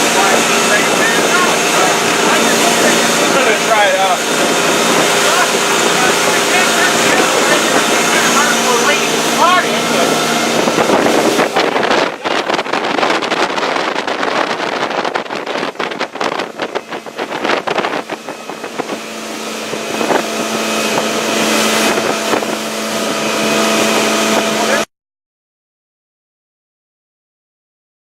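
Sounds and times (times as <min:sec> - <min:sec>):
wind buffeting microphone: 0:00.0 - 0:24.8
motorboat engine: 0:00.0 - 0:24.9
water rushing: 0:00.0 - 0:24.9.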